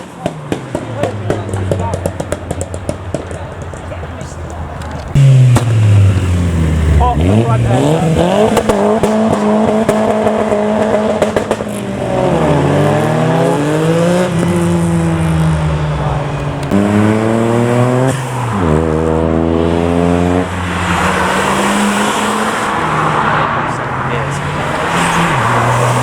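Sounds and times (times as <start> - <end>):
car engine revving hard: 0.0 - 26.0.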